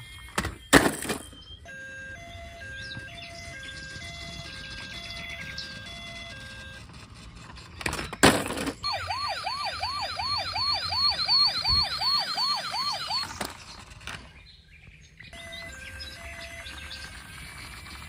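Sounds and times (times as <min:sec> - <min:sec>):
toy police siren wailing: 0:00.0 - 0:07.2, 0:08.5 - 0:13.6, 0:15.3 - 0:18.0.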